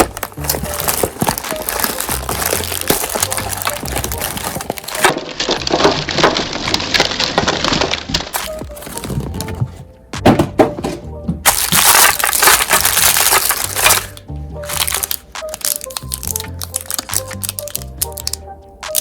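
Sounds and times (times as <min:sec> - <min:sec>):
background music with bass: 0:00.0 - 0:06.3, 0:07.0 - 0:19.0
meat grinder crushing and crackling: 0:00.0 - 0:09.4, 0:11.5 - 0:19.0.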